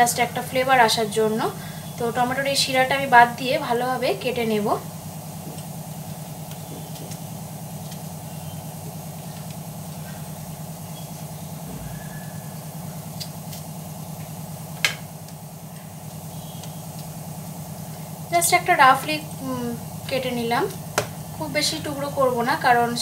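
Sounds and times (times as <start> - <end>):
motor hum: 0.0 - 23.0.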